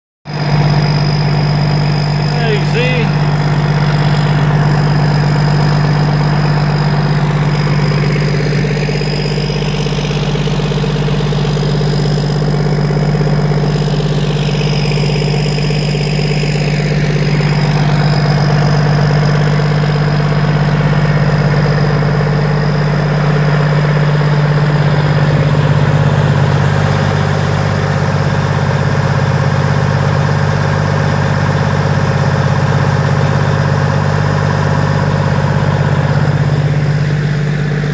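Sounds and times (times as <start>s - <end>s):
diesel engine running: 0.3s - 37.9s.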